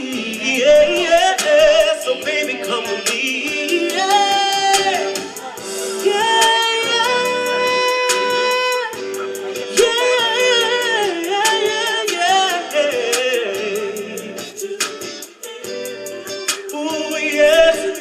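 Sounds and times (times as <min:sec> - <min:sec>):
accompaniment with ticking beat: 0:00.0 - 0:18.0
person singing wordless notes: 0:00.0 - 0:18.0.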